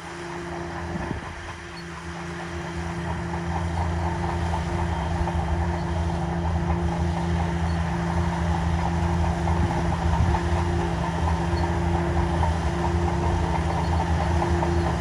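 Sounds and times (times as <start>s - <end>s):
excavator running: 0.0s - 15.0s.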